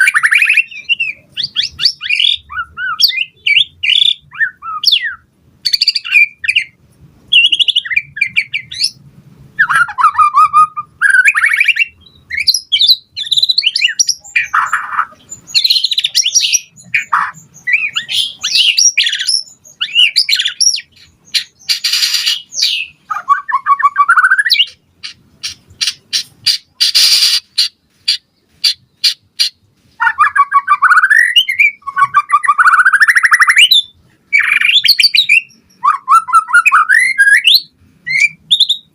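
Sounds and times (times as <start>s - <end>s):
bird singing whistled phrases: 0.0s - 9.0s, 9.6s - 24.8s, 30.0s - 38.9s.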